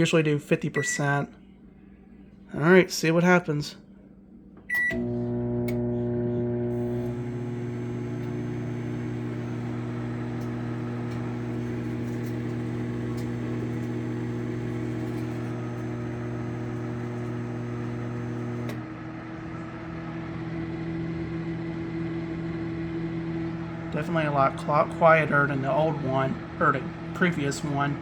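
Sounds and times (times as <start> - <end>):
microwave hum: 4.4 - 28.0
microwave fan: 4.7 - 28.0.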